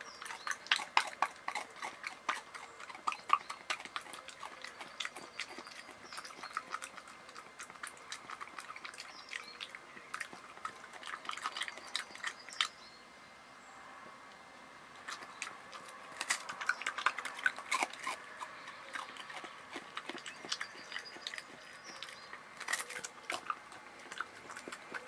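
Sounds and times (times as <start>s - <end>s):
wet tongue smacks and clicks: 0.0s - 12.8s, 15.0s - 25.0s
badger licking and chewing: 0.0s - 12.9s, 15.0s - 25.0s.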